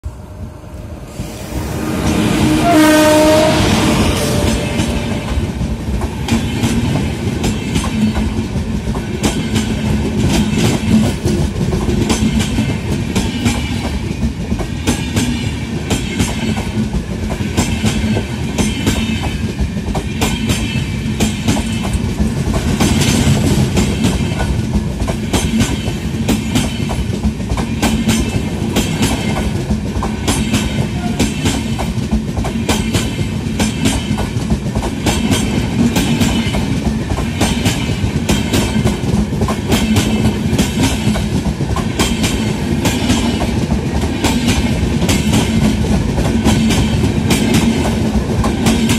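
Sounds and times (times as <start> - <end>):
train coaches rumbling past: 0.0 - 48.9.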